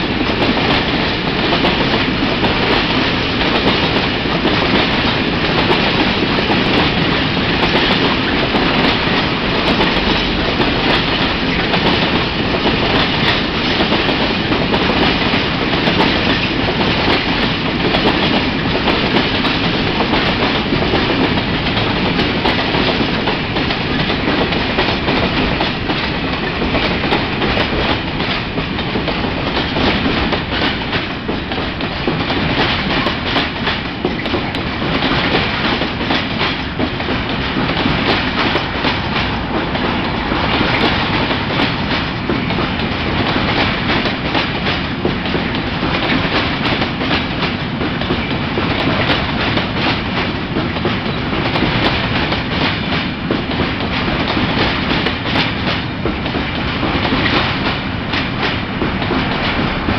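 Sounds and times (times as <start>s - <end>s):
wheels clicking over rail joints: 0.0s - 59.9s.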